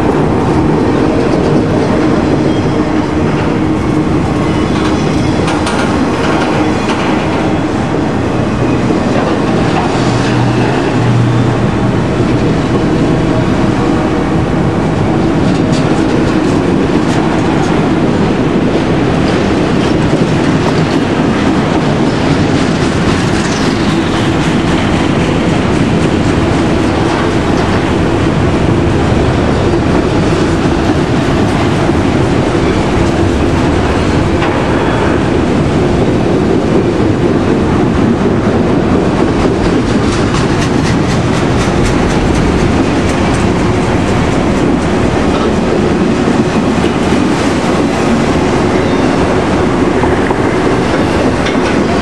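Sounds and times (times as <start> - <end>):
freight train rolling past: 0.0 - 52.0
wheels clacking over rail joints: 0.0 - 52.0.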